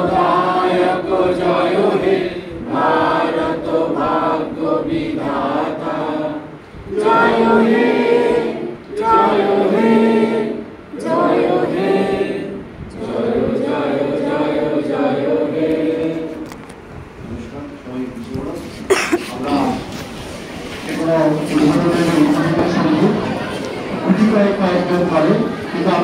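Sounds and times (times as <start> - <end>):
unaccompanied voices chanting: 0.0 - 16.5, 19.4 - 26.0.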